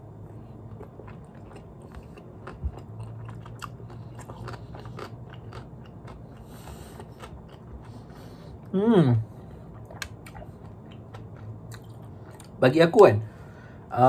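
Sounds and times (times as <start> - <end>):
low steady hum: 0.0 - 14.0
chewing food: 0.4 - 8.7, 9.4 - 12.6.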